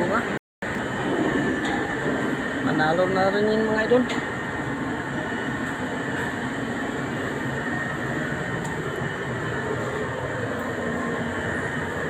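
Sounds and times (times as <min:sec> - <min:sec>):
constant background drone: 0:00.0 - 0:12.0.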